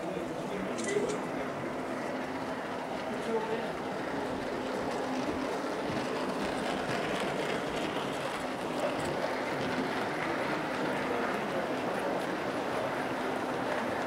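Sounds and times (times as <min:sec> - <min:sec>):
model train rolling rumble: 0:00.0 - 0:14.0.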